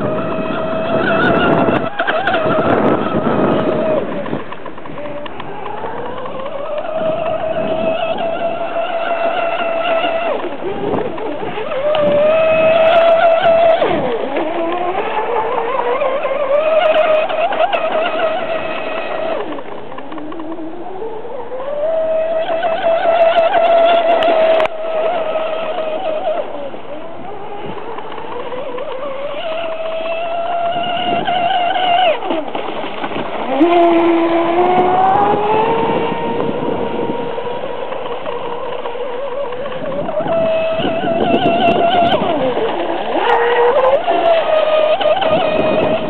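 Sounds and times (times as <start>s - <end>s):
electric boat motor whining: 0.0s - 46.0s.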